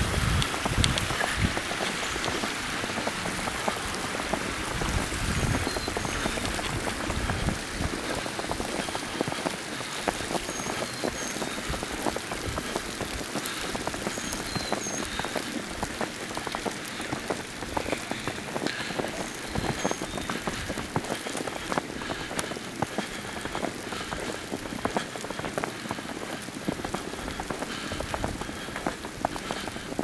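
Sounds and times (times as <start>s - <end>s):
precipitation pattering: 0.2s - 30.0s.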